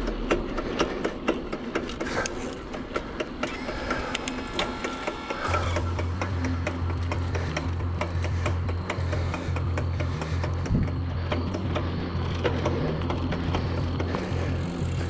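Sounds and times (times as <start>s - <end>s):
bicycle freewheel clicking: 0.0s - 15.0s
steady low hum: 0.0s - 15.0s.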